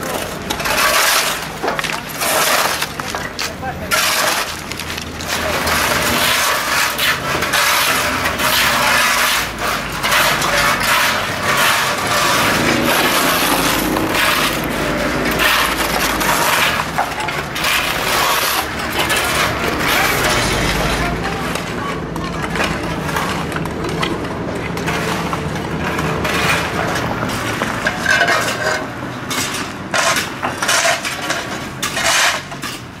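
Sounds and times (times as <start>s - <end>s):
shovels scraping mud and gravel: 0.0s - 33.0s.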